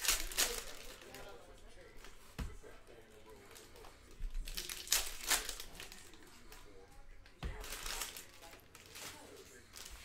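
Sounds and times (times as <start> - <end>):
foil wrappers crinkling: 0.0 - 2.2, 3.3 - 6.7, 7.5 - 10.0.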